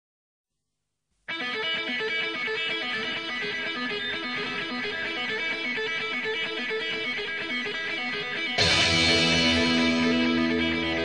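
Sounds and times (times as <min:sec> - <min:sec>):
guitar picking a melody: 0:01.3 - 0:11.0.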